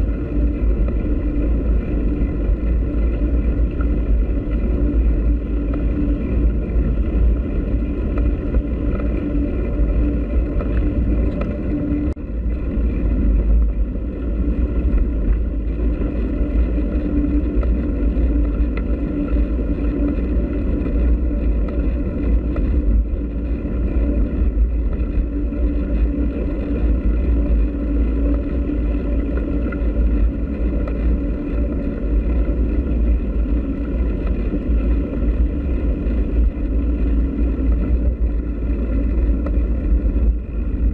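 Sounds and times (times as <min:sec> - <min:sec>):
bicycle tyres rolling on dirt: 0:00.0 - 0:40.9
wind rumble on microphone: 0:00.0 - 0:40.9.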